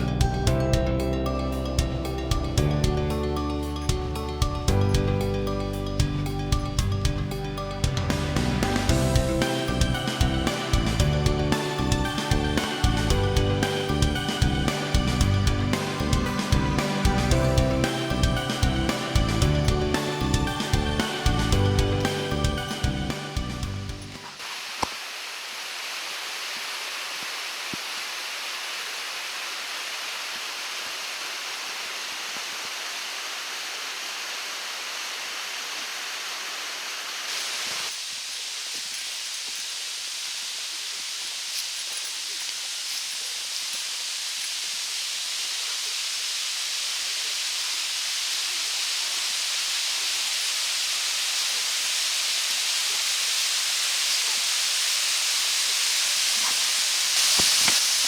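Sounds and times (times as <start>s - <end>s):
stream and waterfall rushing: 7.4s - 58.0s.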